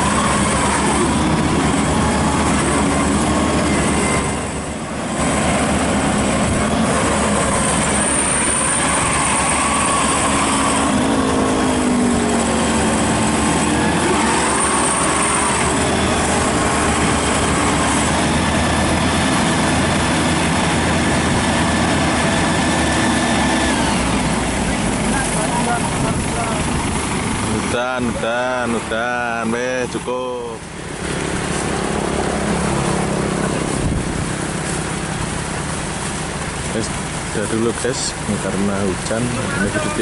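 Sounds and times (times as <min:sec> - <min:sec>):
combine harvester droning: 0:00.0 - 0:40.0.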